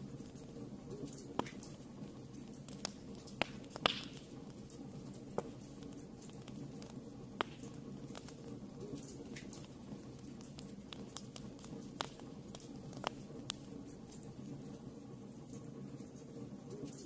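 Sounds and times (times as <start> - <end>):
fire crackling and popping: 0.0 - 17.0
fire rumbling in fireplace: 0.0 - 17.0.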